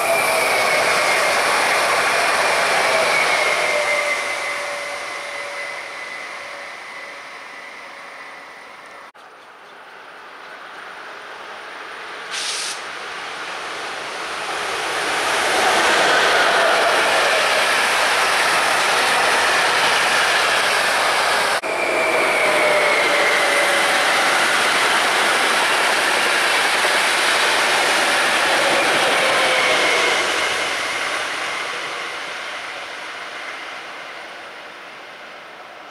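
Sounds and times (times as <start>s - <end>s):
train wheels rushing on rail: 0.0s - 9.1s, 10.0s - 35.9s.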